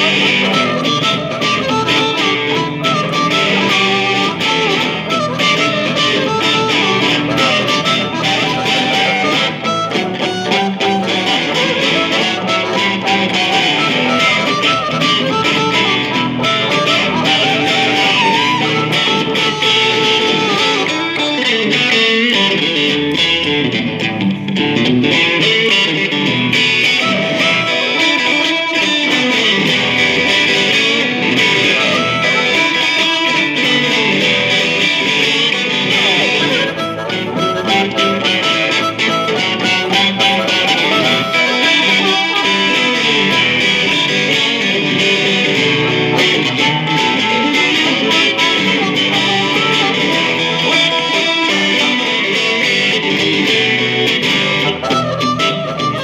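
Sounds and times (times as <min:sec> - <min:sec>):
amplified harmonica playing blues: 0:00.0 - 0:56.0
electric guitar: 0:00.0 - 0:56.0.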